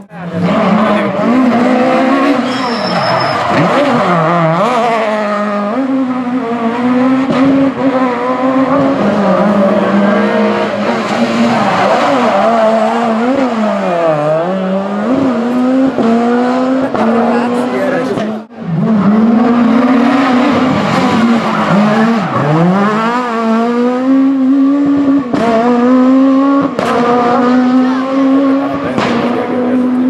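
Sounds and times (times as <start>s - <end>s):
rally car engines accelerating: 0.0s - 30.0s.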